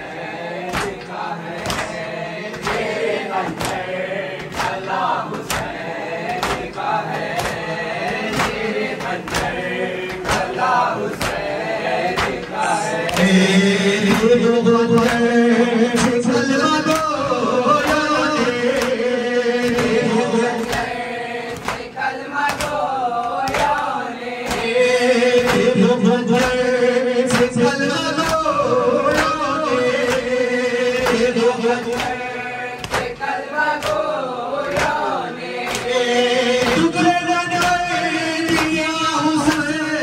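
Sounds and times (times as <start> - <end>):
men chanting a lament: 0.0 - 40.0
rhythmic chest slaps: 0.0 - 40.0.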